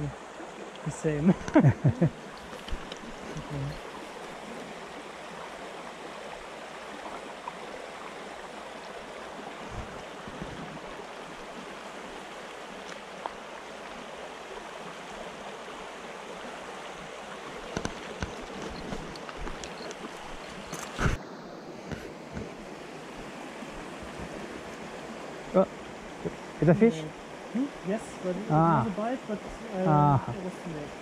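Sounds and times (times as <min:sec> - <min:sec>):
stream rushing over stones: 0:00.0 - 0:31.0.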